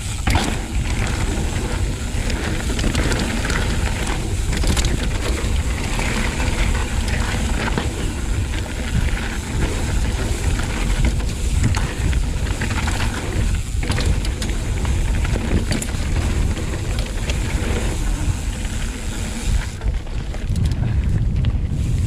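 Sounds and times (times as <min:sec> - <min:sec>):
tyres rumbling on dirt: 0:00.0 - 0:21.7
bike clicks and rattles: 0:00.0 - 0:22.0
wind buffeting microphone: 0:00.0 - 0:22.0.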